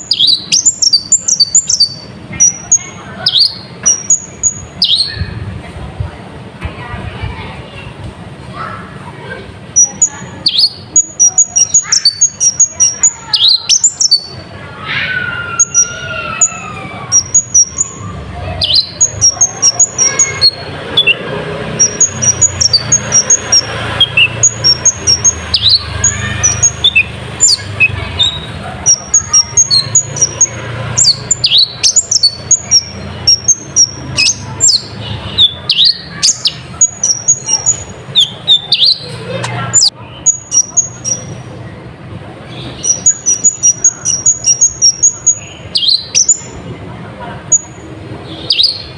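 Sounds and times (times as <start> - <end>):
sunbird chirping and twittering: 0.0 - 6.1, 8.6 - 48.9.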